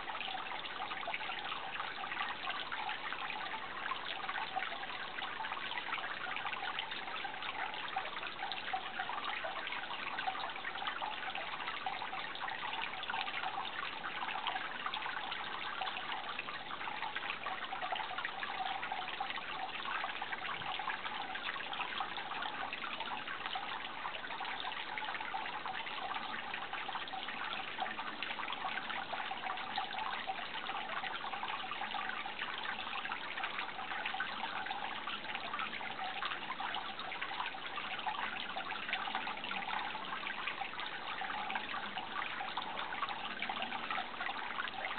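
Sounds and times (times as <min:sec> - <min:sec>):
water trickling: 0:00.0 - 0:44.9.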